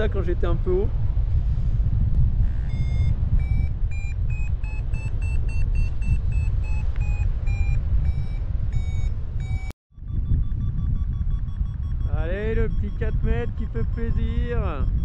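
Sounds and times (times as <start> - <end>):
wind rush on microphone: 0.0 - 15.0
variometer beeping: 2.4 - 15.0.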